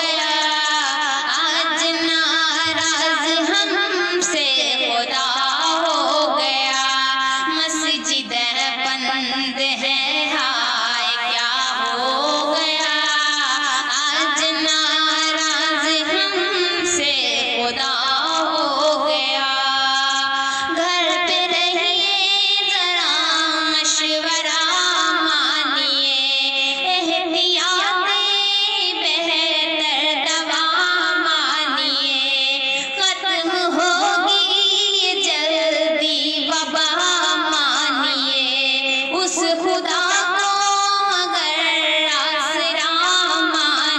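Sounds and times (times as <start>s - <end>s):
woman singing: 0.0s - 43.9s.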